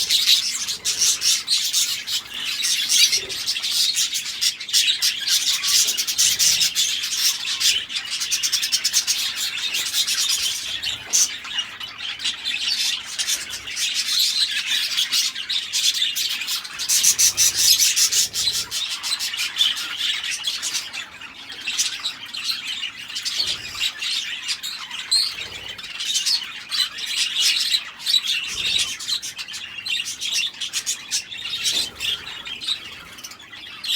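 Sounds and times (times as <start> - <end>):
budgerigars chattering and chirping: 0.0 - 33.9.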